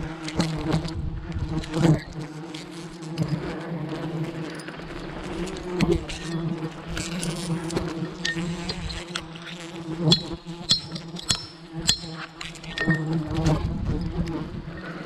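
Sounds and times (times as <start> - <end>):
honeybees buzzing in a swarm: 0.0 - 15.0.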